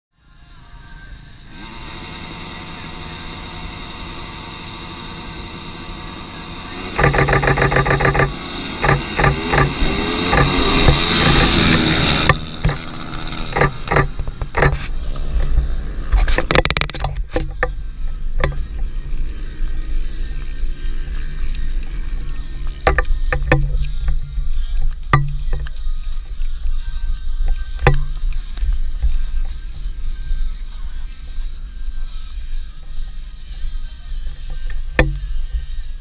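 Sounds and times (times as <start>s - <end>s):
race motorcycles passing: 1.4s - 36.0s.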